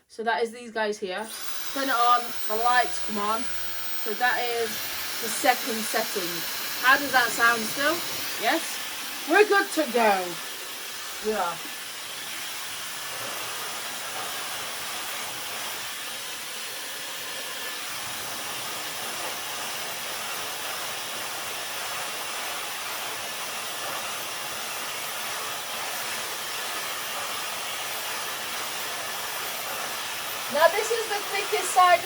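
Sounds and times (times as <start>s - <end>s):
hair dryer blowing air: 1.2s - 32.0s.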